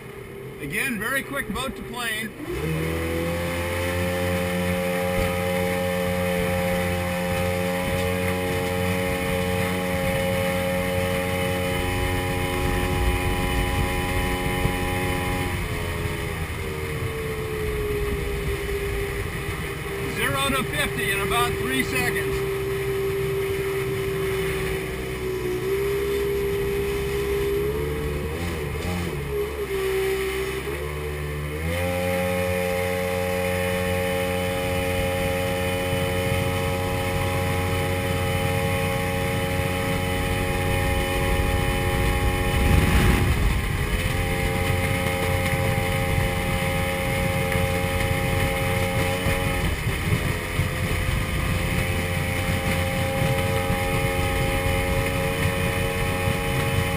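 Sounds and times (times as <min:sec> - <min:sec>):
jet boat engine running: 0:00.0 - 0:56.9
water rush: 0:00.0 - 0:56.9.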